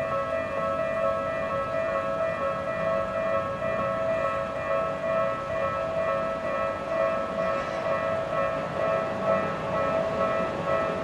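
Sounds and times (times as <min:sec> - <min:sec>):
level-crossing warning bell: 0:00.0 - 0:11.0.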